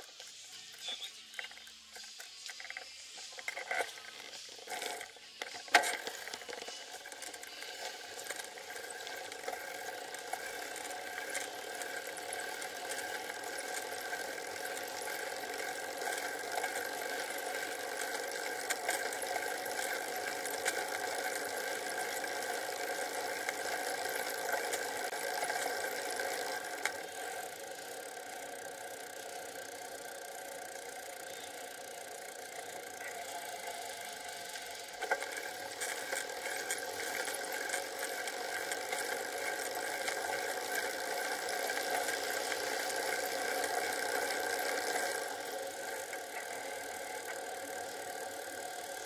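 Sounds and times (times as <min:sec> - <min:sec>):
bicycle riding hum: 0:00.0 - 0:49.0
bike rattles and ticks: 0:00.0 - 0:49.0.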